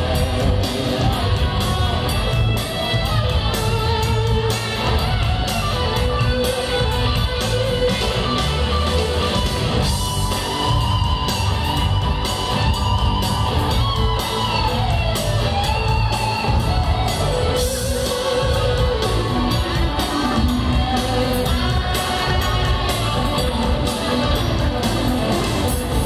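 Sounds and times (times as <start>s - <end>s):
drums: 0.0s - 26.0s
electric guitar: 0.0s - 26.0s
live rock band: 0.0s - 26.0s.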